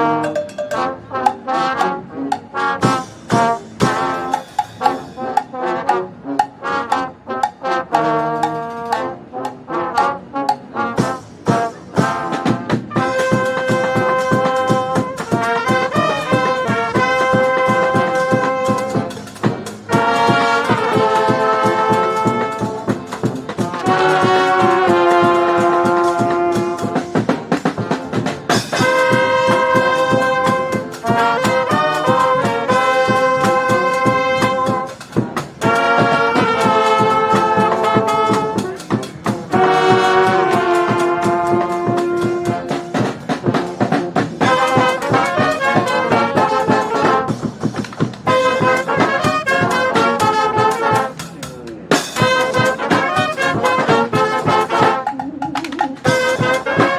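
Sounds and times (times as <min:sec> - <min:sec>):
brass band playing: 0:00.0 - 0:56.9
steady percussion beat: 0:00.0 - 0:56.9
trumpets and trombones: 0:00.0 - 0:56.9.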